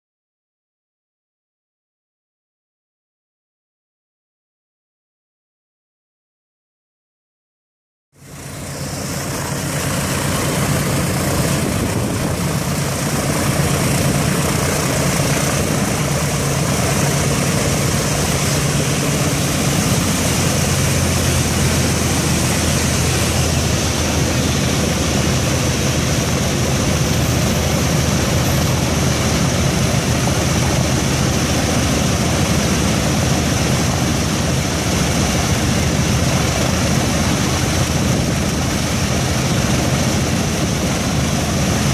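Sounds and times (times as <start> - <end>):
radial aircraft engines idling: 8.2 - 41.9.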